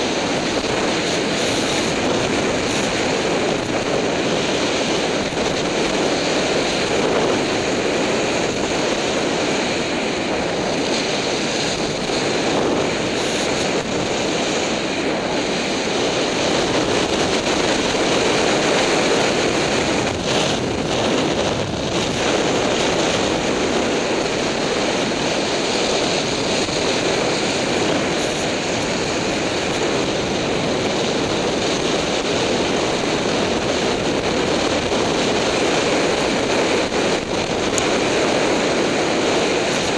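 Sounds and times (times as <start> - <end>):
skis scraping over snow: 0.0 - 39.9
wind on microphone: 0.0 - 39.9.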